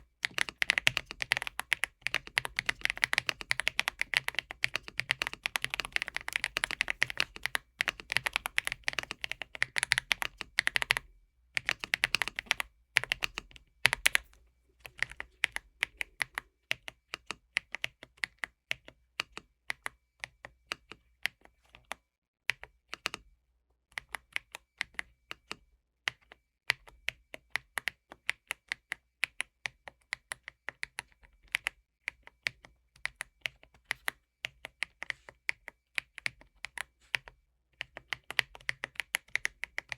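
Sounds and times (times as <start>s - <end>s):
mechanical keyboard typing: 0.0s - 23.3s, 23.9s - 39.9s.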